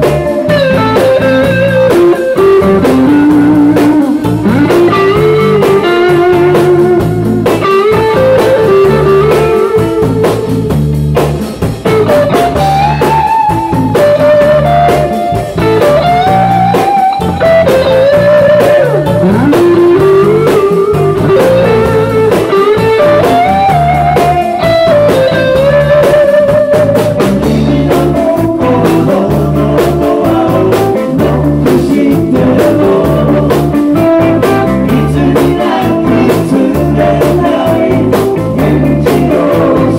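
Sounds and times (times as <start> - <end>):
electric guitar solo with bends: 0.0 - 28.8, 33.7 - 38.6
bass guitar: 0.0 - 39.9
drums: 0.0 - 39.9
rhythm guitar: 0.0 - 39.9.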